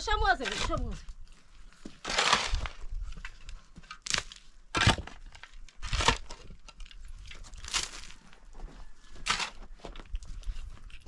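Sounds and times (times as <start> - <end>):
rubble crunching: 0.0 - 11.0.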